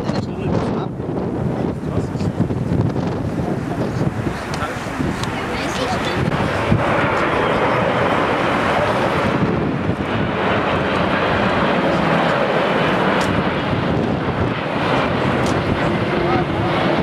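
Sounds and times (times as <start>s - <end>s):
jet engines rushing: 0.0s - 17.0s
wind buffeting microphone: 0.0s - 17.0s.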